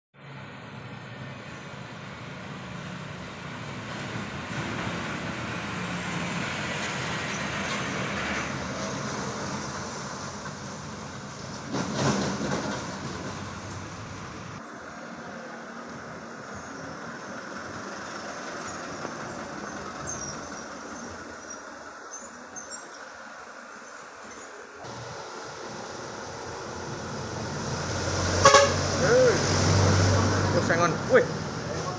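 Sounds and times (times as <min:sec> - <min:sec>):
tyres hissing on wet road: 0:00.3 - 0:31.9.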